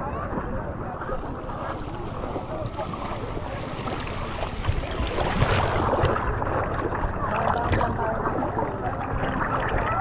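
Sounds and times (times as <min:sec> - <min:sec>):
seawater sloshing and gurgling: 0:00.0 - 0:10.0.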